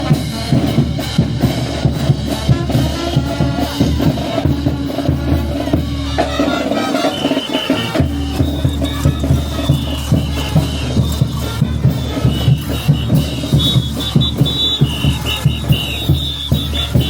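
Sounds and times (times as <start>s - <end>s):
bass drum and snare beat: 0.0s - 17.0s
brass band playing dance tune: 0.0s - 17.0s.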